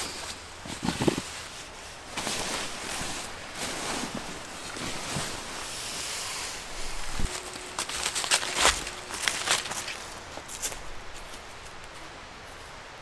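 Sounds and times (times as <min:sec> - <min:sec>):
nylon fabric rustling: 0:00.6 - 0:11.3.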